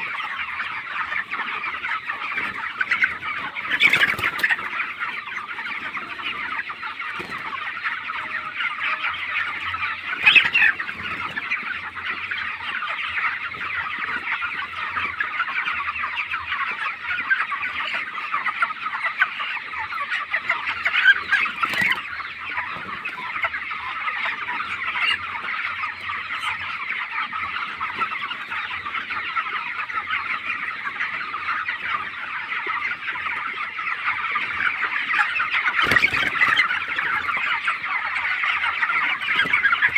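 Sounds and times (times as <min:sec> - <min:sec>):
chickens peeping and clucking: 0:00.0 - 0:39.9.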